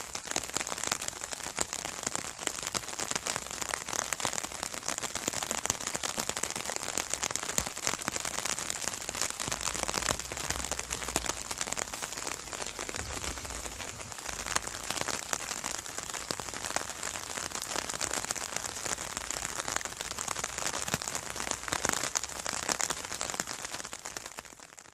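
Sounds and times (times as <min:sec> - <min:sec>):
rain drumming on an umbrella: 0:00.0 - 0:24.9.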